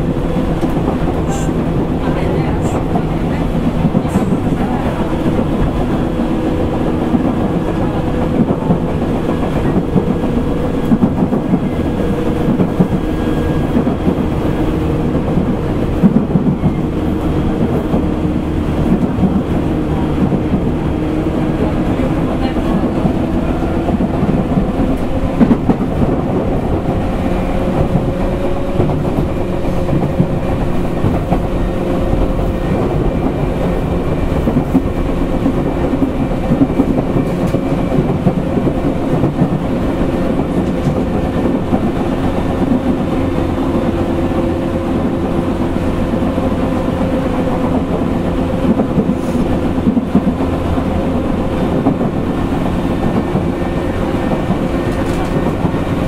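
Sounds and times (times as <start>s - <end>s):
train motor and gear hum: 0.0s - 56.0s
train wheels rumbling: 0.0s - 56.0s.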